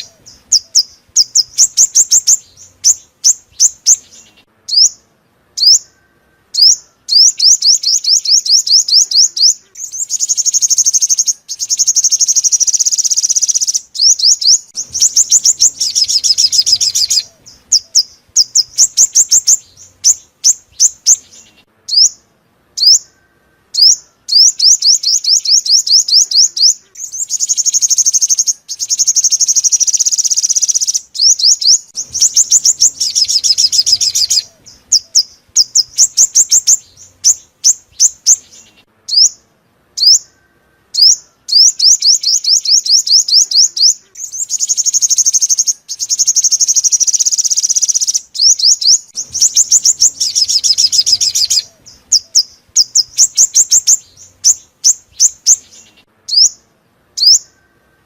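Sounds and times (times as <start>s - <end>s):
sunbird song: 0.0s - 58.0s.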